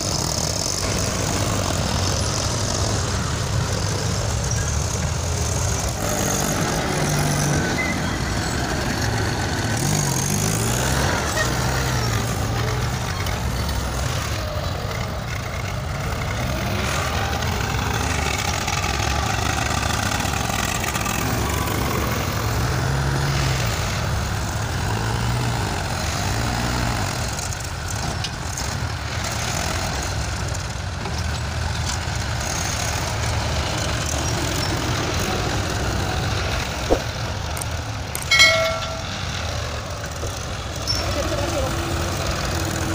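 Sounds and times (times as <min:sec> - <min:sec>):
diesel tractor engines: 0:00.0 - 0:42.9.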